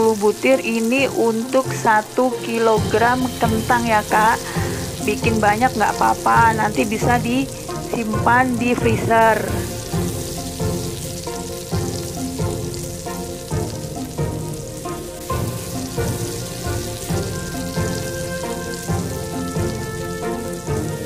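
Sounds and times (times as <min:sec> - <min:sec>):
shallots sizzling in oil: 0:00.0 - 0:21.0
background music with beat: 0:02.4 - 0:21.0.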